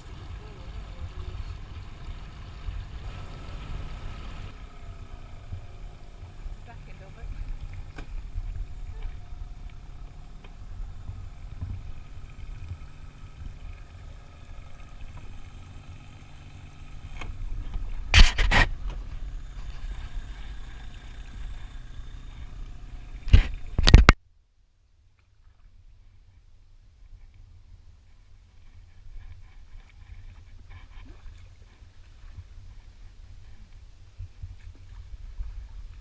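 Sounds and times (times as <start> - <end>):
boat motor rumbling: 0.0 - 24.2, 26.0 - 36.0.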